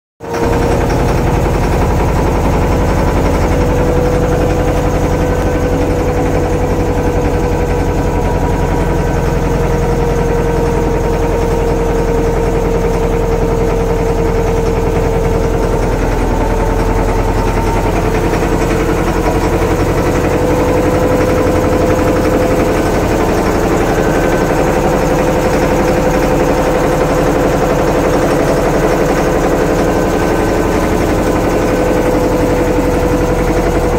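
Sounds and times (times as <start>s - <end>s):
boat engine rumbling: 0.2s - 33.9s.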